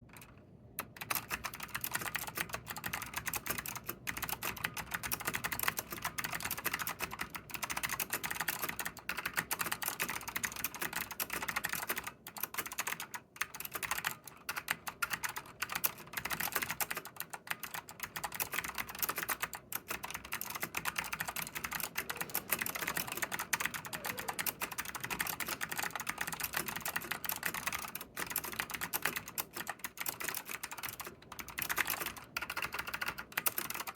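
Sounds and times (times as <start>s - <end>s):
fast typing on clicky keyboard: 0.0s - 33.9s.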